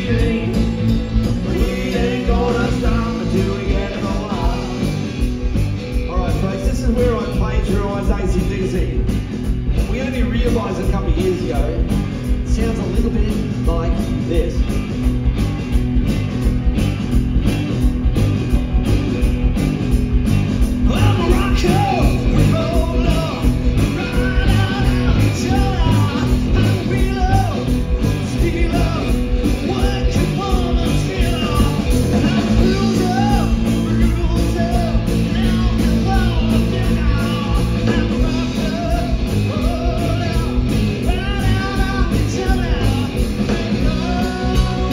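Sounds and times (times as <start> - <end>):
man singing: 0.0 - 5.0, 6.0 - 9.2, 9.8 - 14.8, 20.8 - 44.9
rock band playing: 0.0 - 44.9.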